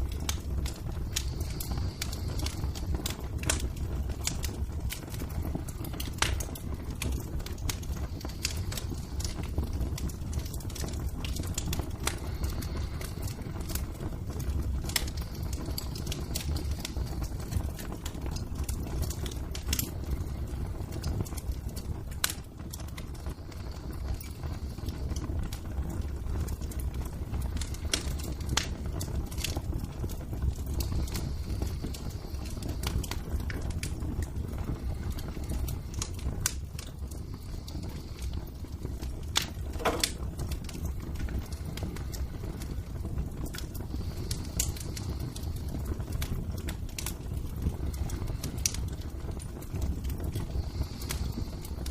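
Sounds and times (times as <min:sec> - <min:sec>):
fire pops and snaps: 0:00.0 - 0:51.9
wood fire rumbling: 0:00.0 - 0:51.9.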